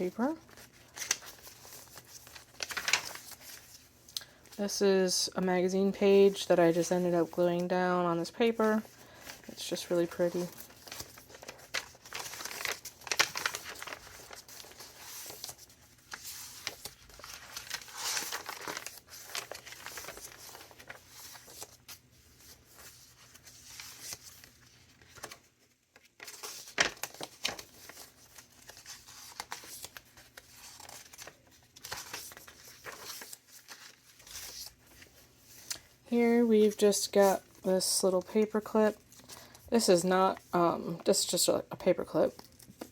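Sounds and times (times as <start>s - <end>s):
paper pages rustling: 0.0s - 4.6s, 6.1s - 42.9s.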